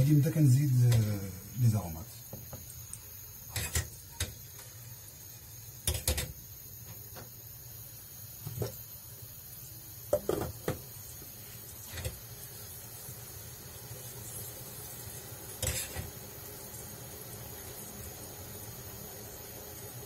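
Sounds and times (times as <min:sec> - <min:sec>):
garlic sizzling in oil: 0:00.0 - 0:20.0.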